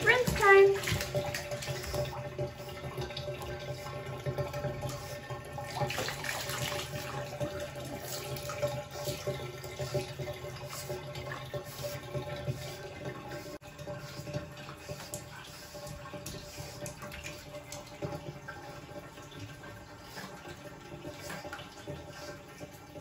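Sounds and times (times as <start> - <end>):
water pouring and splashing: 0.0 - 23.0.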